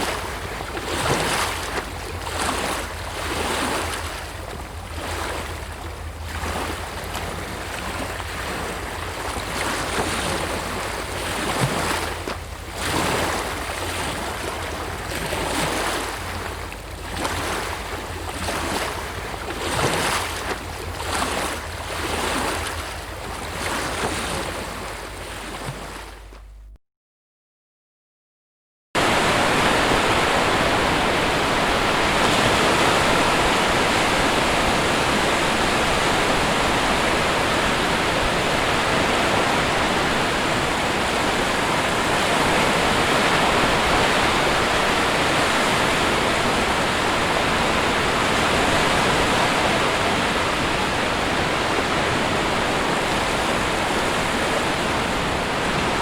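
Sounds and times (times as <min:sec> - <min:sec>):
sea waves breaking: 0:00.0 - 0:26.7, 0:29.0 - 0:56.0.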